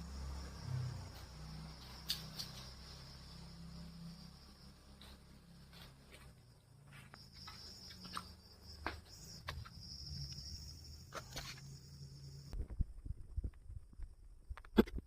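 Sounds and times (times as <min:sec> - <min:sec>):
high-pitched insect trill: 0:00.0 - 0:12.6.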